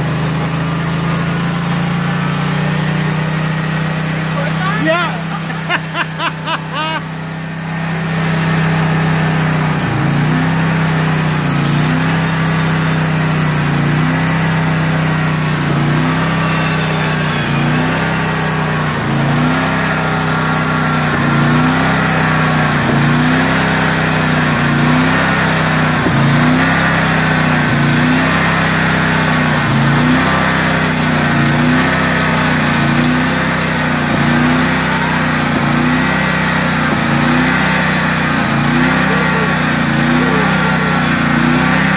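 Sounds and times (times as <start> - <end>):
band saw cutting log: 0.0 - 41.9
sawmill engine running: 0.0 - 41.9.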